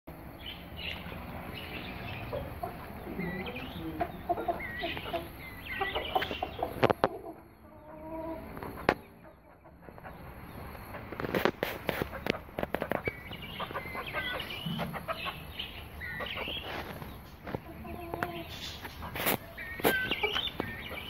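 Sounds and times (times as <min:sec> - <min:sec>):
chickens and guineafowl calling: 0:00.4 - 0:21.0.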